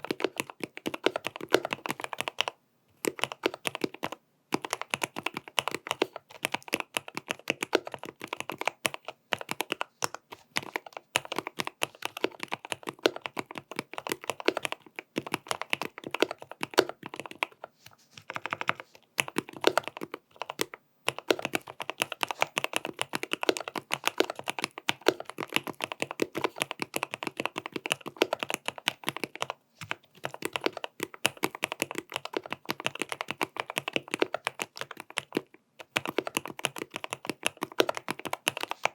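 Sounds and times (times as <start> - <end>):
keyboard typing clacks: 0.0 - 38.9.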